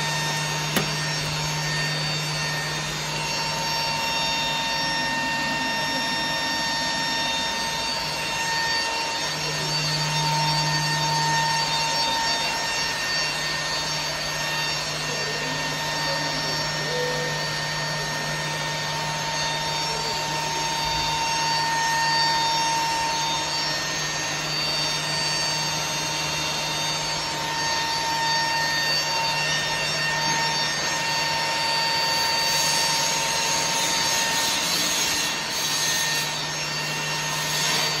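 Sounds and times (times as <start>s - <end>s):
blender motor humming and whining: 0.0s - 38.0s.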